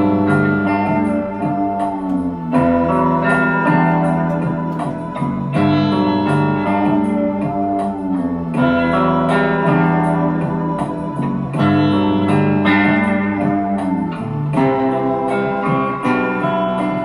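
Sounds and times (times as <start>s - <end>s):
electronic music with steady beat: 0.0s - 17.0s.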